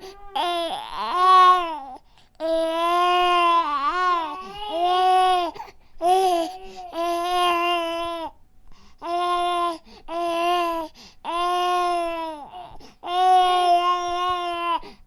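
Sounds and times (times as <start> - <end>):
infant crying: 0.0 - 8.4, 9.0 - 15.0.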